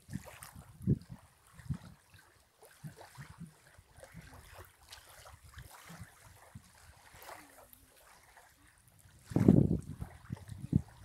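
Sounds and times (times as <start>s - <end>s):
wind on microphone: 0.0s - 2.2s, 2.8s - 11.0s
small waves lapping: 0.0s - 11.0s.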